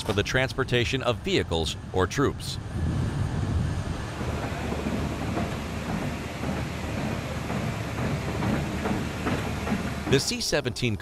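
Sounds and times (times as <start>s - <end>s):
low engine rumble: 0.0s - 10.9s.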